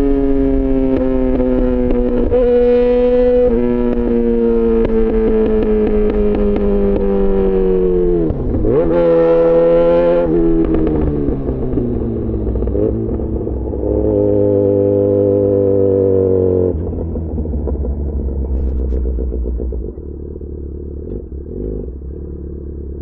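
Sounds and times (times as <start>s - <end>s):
motorcycle engine on the road: 0.0s - 23.0s.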